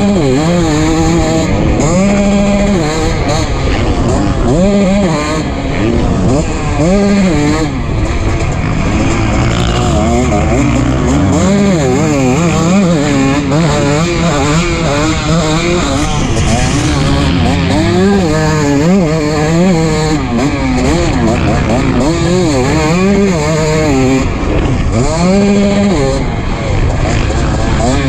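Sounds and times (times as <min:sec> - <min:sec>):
motocross engine revving: 0:00.0 - 0:28.0.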